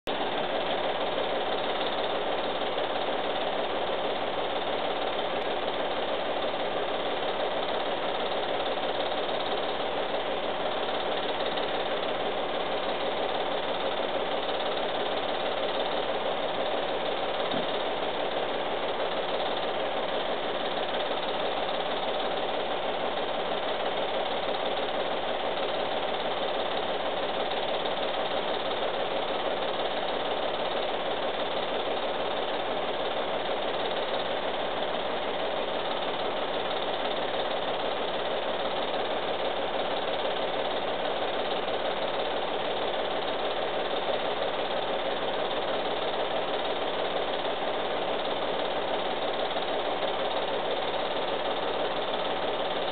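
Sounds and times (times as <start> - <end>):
film projector whirring and clattering: 0.1 - 52.9.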